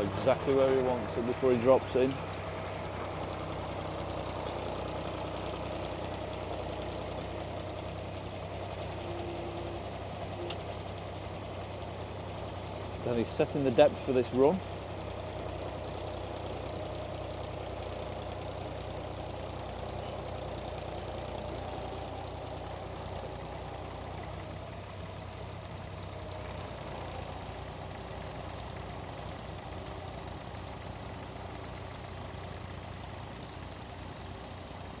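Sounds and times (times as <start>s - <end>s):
tractor engine running under load: 0.0s - 35.0s.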